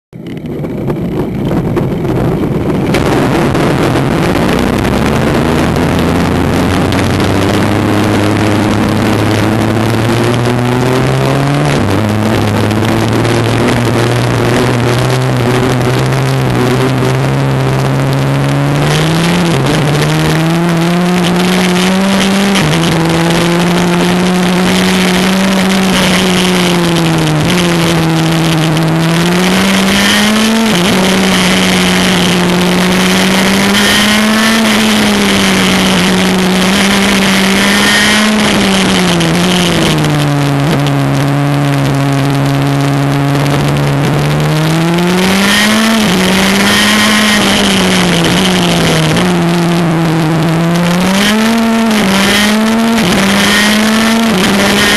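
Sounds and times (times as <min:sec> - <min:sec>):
kart engine revving: 0:00.2 - 0:54.9.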